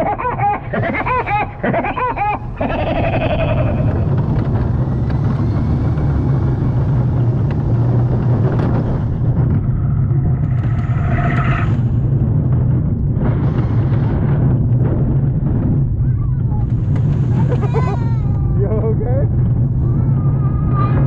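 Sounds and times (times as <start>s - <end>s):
roller coaster train rumbling: 0.0s - 21.0s.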